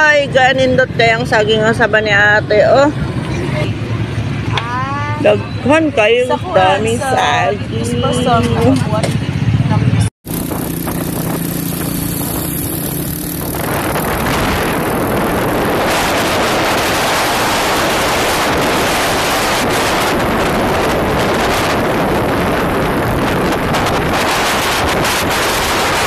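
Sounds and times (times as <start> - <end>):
engine hum: 0.0 - 26.0
wind rushing over microphone: 0.0 - 26.0.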